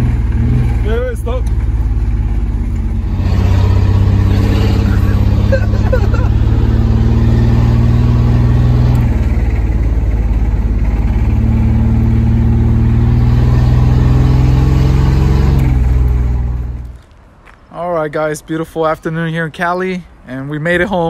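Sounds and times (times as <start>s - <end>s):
pickup engine running loud: 0.0s - 16.9s.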